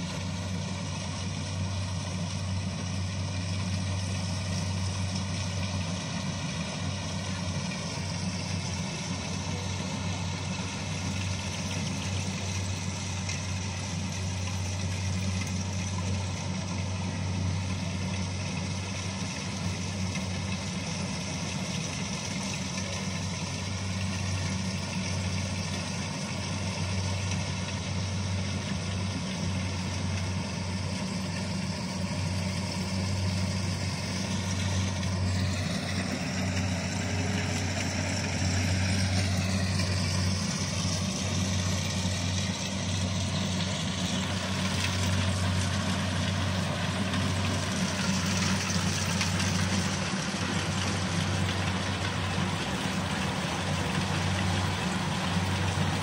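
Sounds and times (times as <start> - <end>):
low diesel engine drone: 0.0 - 56.0.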